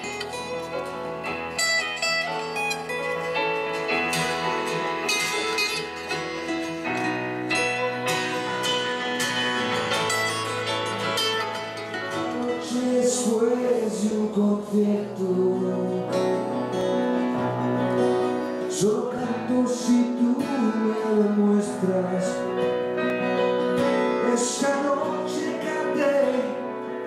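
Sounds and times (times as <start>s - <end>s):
acoustic guitars playing: 0.0s - 27.0s.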